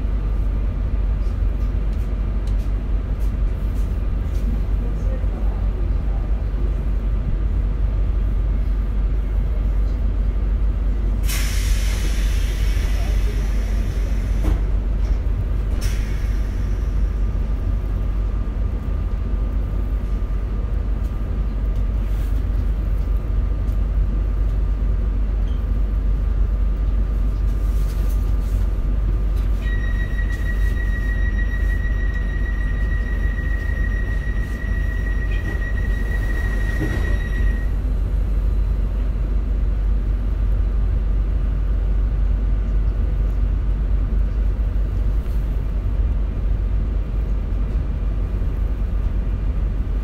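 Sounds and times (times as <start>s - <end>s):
train rumble in tunnel: 0.0s - 50.0s.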